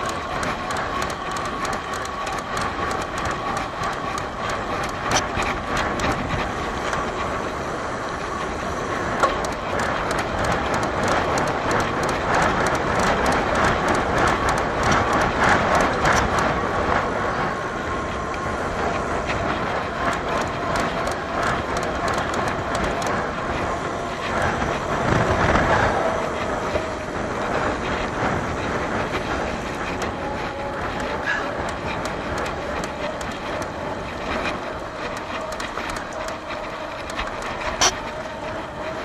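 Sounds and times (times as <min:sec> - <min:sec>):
bicycle tyre noise on concrete: 0:00.0 - 0:39.0
rapid rattle of bike clicks: 0:00.0 - 0:39.0
wind rushing: 0:00.0 - 0:39.0.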